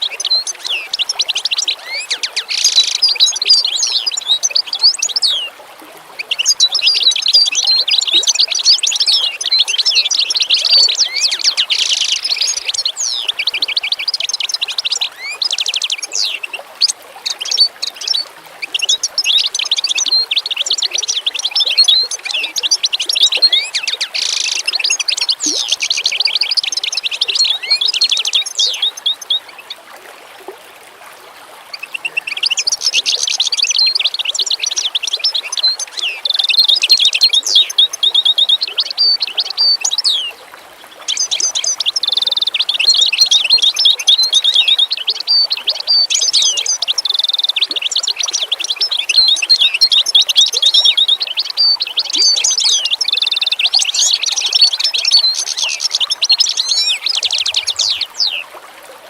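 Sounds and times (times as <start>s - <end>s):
small birds chirping: 0.0s - 5.5s, 6.2s - 29.8s, 31.7s - 58.5s.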